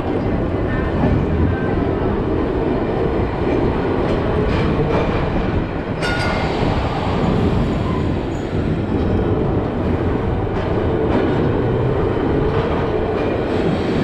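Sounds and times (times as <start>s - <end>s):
tram rolling on rails: 0.0s - 14.0s.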